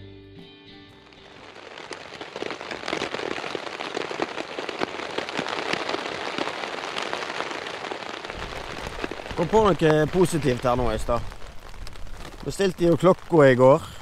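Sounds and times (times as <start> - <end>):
rain pattering on a tent: 1.1 - 14.0.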